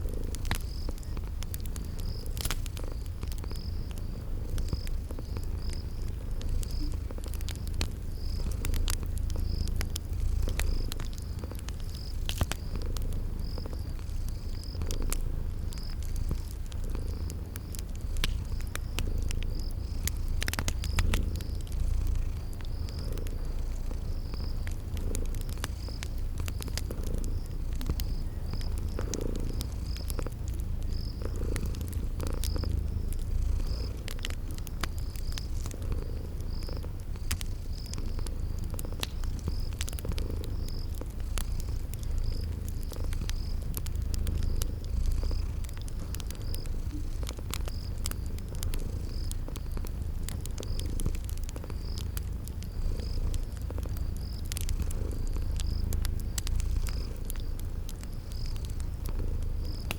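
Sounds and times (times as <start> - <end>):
cat purring: 0.0 - 59.9
cricket chirping: 0.0 - 59.9
wood fire crackling: 0.0 - 59.9.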